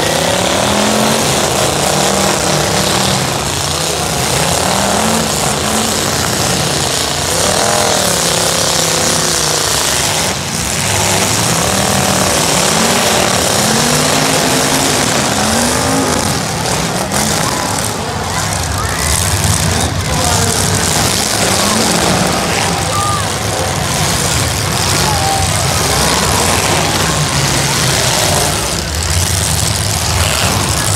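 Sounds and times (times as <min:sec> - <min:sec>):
car engines revving: 0:00.0 - 0:30.9.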